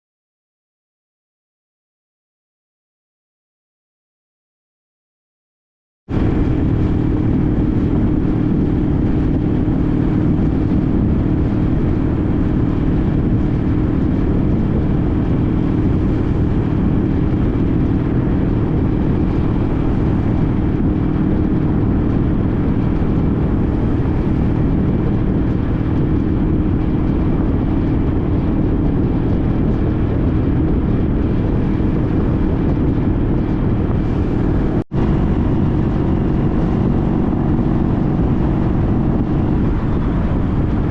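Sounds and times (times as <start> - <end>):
motorcycle engine running: 6.1 - 40.9.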